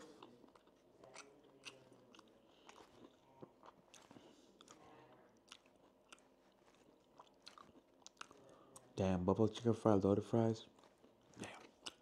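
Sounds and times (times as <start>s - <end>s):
person chewing crunchy food: 0.0s - 9.0s, 10.6s - 12.0s.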